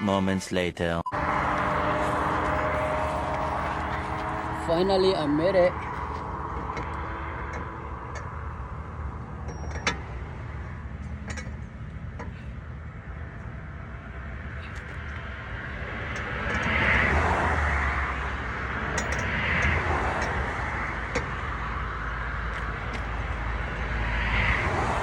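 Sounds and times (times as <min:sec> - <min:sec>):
car low rumble: 0:01.0 - 0:25.0.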